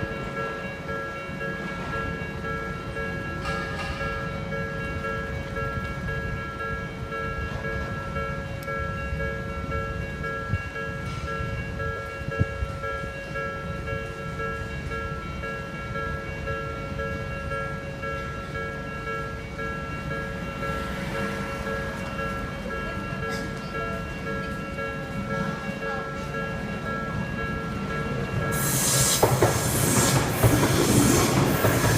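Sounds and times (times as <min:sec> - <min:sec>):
railroad crossing bell: 0:00.0 - 0:31.9.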